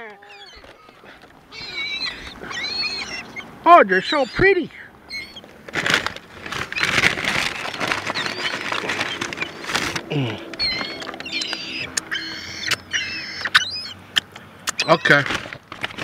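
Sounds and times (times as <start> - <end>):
seagulls crying: 0.0 - 5.6, 6.6 - 15.3.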